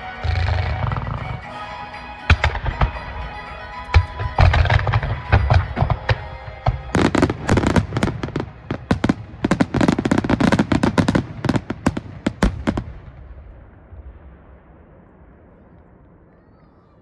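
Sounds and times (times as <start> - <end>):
fireworks cracking and banging: 0.0 - 16.0.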